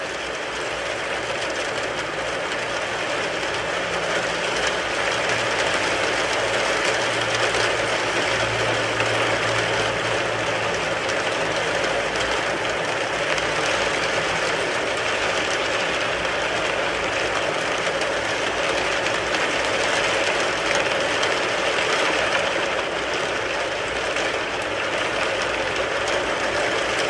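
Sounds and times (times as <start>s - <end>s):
rain patter on a car: 0.0s - 27.0s.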